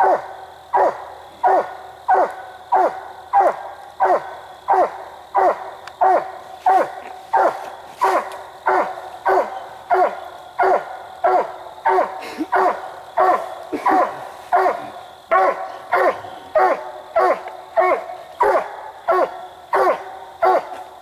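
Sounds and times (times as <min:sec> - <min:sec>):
dog barking: 0:00.0 - 0:20.8.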